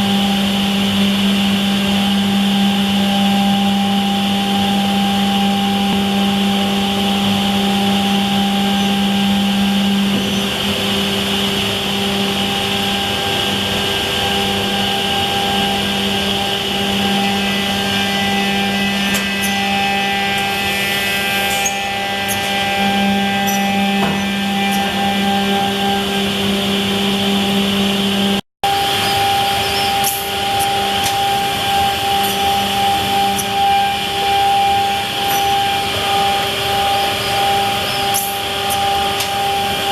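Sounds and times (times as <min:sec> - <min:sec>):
machine motor hum: 0:00.0 - 0:39.9.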